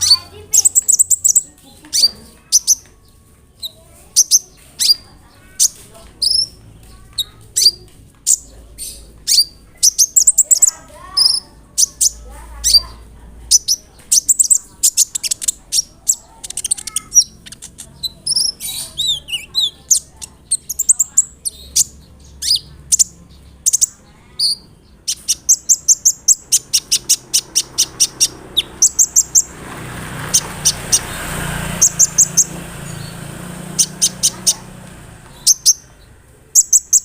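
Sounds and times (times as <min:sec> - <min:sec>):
sunbird chirps and trills: 0:00.0 - 0:37.0.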